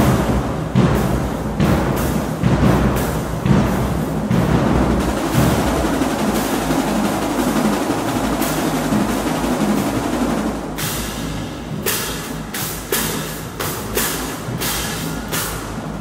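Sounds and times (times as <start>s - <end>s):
bass drums: 0.0s - 16.0s
crash cymbals: 0.0s - 16.0s
snare drums: 0.0s - 16.0s.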